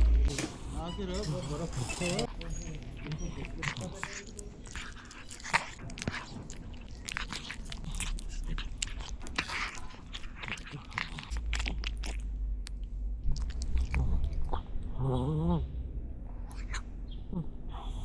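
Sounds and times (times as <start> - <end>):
cats crunching food: 0.1 - 15.2, 16.3 - 17.0.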